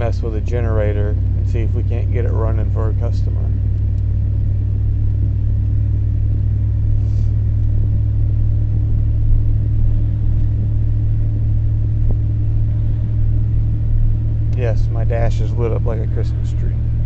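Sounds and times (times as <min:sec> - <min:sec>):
car engine and road noise: 0:00.0 - 0:17.0
faint steady hum: 0:00.0 - 0:17.0.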